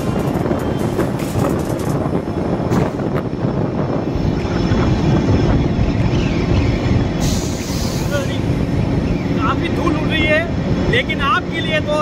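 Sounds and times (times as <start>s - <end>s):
train rumbling through tunnel: 0.0s - 12.0s.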